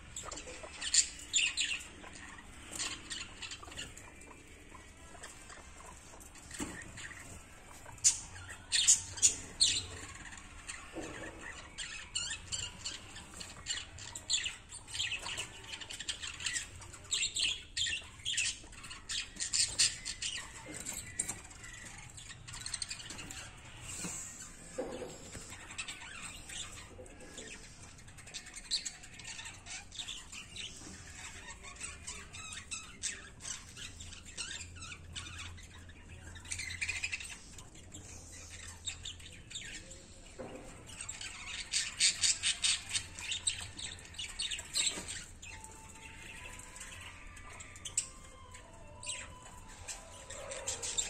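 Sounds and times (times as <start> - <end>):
guinea pigs chewing greens: 0.0 - 51.0
guinea pigs chirping: 0.0 - 51.0.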